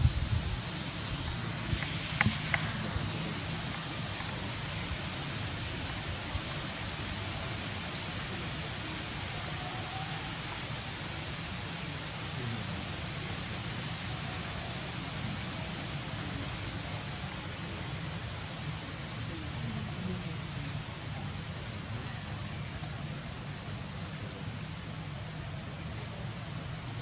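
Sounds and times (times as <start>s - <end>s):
high-pitched hiss: 0.0s - 27.0s.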